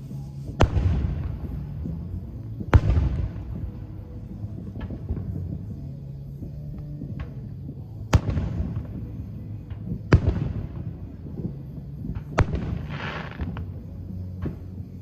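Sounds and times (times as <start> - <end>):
fireworks bangs: 0.0 - 15.0
fireworks crackling: 0.0 - 15.0
low hum: 0.0 - 15.0.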